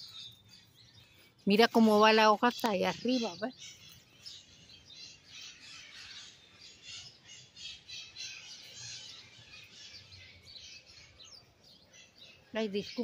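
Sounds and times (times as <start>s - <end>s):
birds squawking: 0.0s - 13.0s.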